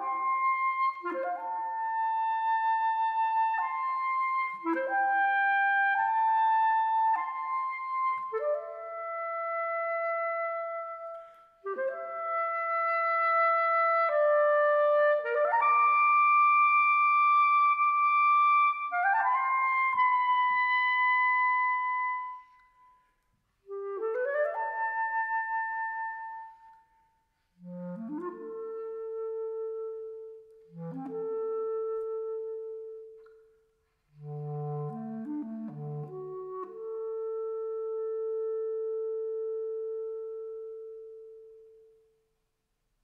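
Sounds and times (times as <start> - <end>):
solo clarinet: 0.0 - 42.3.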